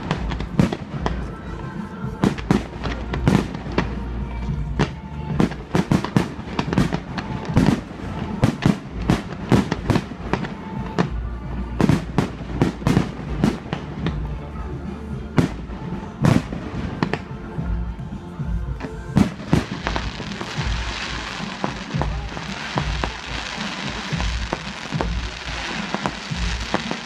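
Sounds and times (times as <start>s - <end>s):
fireworks bangs: 0.0s - 14.5s, 15.4s - 17.8s, 18.8s - 27.0s.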